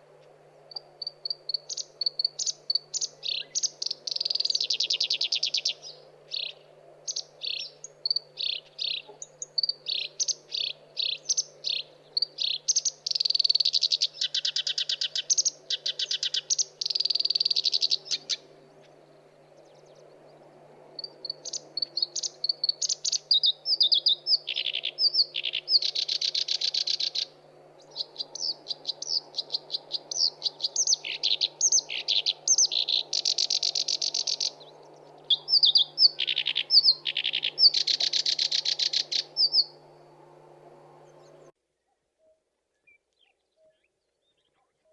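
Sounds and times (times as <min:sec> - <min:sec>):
warbler singing: 0:00.0 - 0:41.5.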